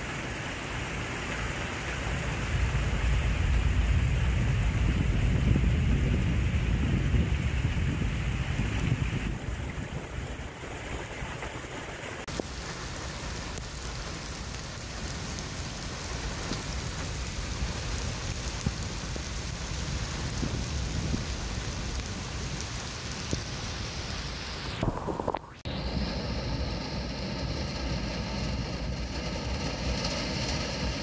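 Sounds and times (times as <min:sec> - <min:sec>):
heavy rain on pavement: 0:00.0 - 0:31.0
low rumble: 0:00.8 - 0:11.5, 0:12.2 - 0:31.0.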